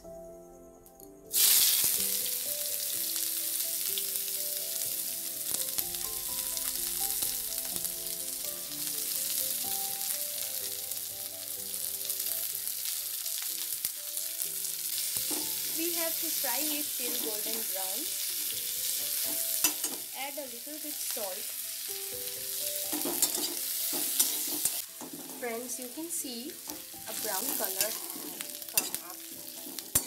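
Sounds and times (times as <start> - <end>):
onions sizzling in hot oil: 1.3 - 30.0.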